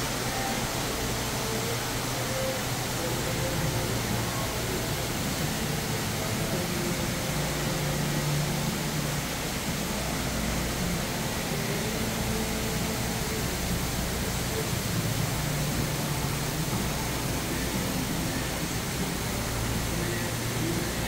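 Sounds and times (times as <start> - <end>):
faint distant voices: 0.0 - 21.0
steady rushing noise: 0.0 - 21.0.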